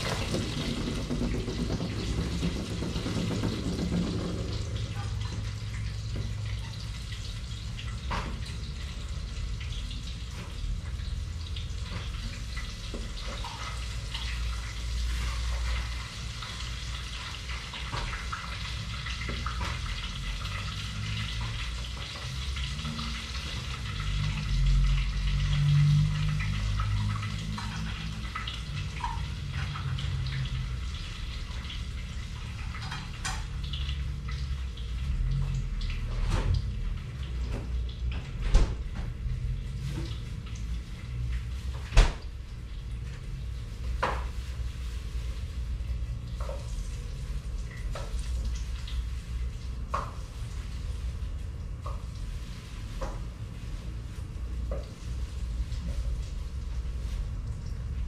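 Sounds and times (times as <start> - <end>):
tap water running into sink: 0.0 - 44.3, 46.2 - 50.6.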